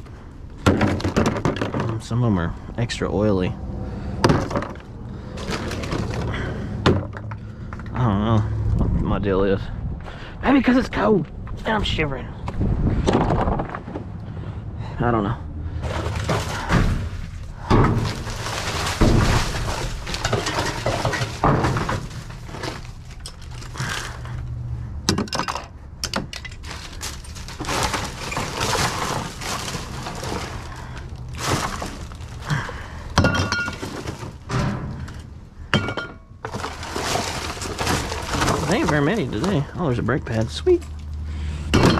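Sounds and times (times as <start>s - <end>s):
junk clattering while rummaged: 0.0s - 2.5s, 3.9s - 8.0s, 12.4s - 14.4s, 15.7s - 41.9s.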